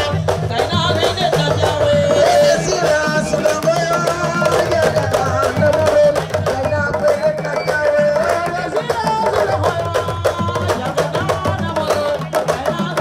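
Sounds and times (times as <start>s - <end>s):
drums in a fast dense rhythm: 0.0s - 13.0s.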